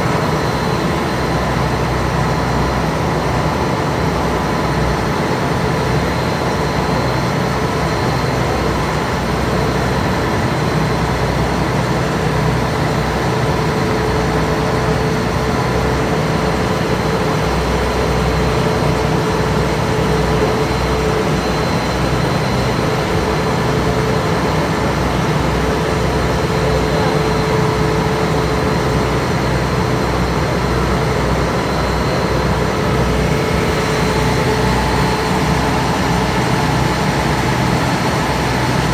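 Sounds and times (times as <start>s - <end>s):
steady engine whine: 0.0s - 38.9s.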